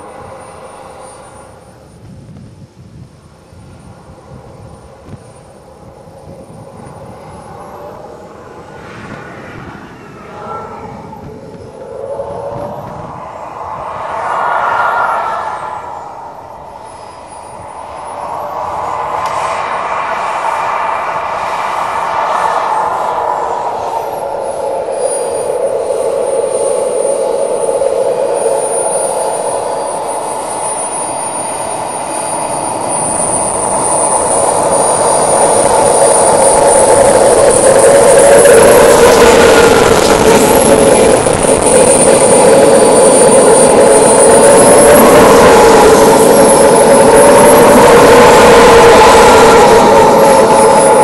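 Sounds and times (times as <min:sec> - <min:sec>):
model jet engine whining: 0:00.0 - 0:51.0.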